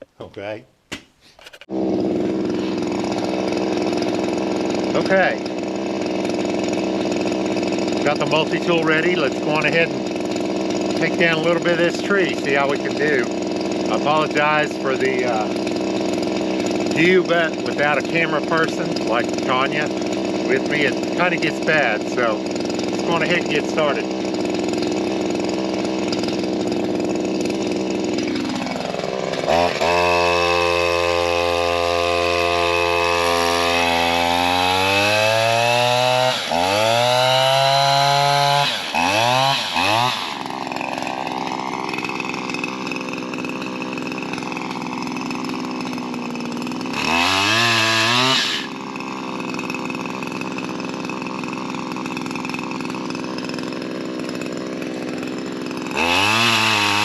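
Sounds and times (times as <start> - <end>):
two-stroke pole saw engine: 1.4 - 57.0.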